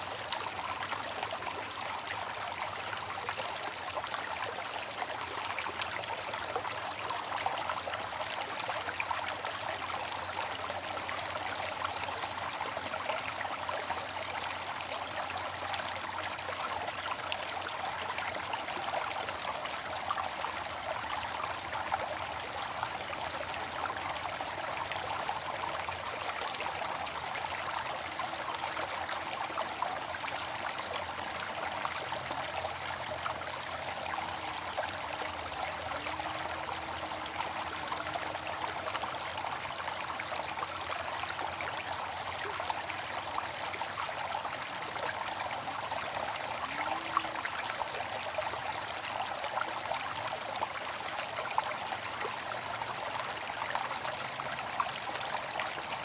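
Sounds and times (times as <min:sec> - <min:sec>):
water fountain splashing: 0:00.0 - 0:56.0.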